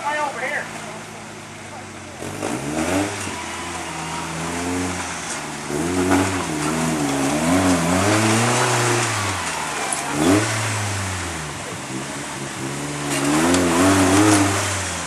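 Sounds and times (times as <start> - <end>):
buggy engine revving: 0.0 - 15.0.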